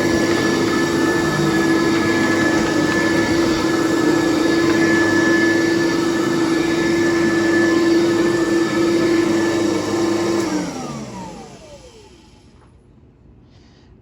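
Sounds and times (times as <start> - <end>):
vacuum cleaner running: 0.0 - 12.7.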